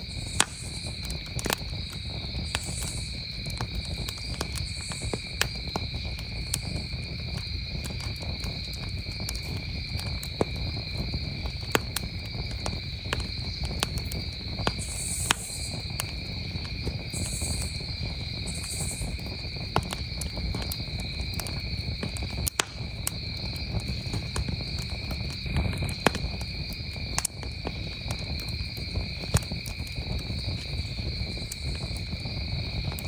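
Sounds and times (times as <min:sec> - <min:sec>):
campfire crackling: 0:00.0 - 0:33.0
crickets chirping: 0:00.0 - 0:33.0.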